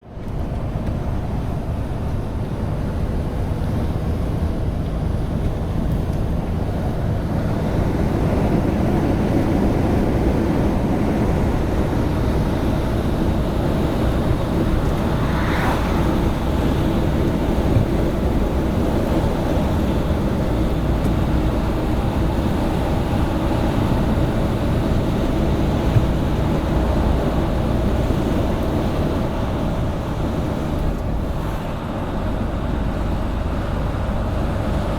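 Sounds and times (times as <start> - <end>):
truck engine and road rumble: 0.0 - 34.9.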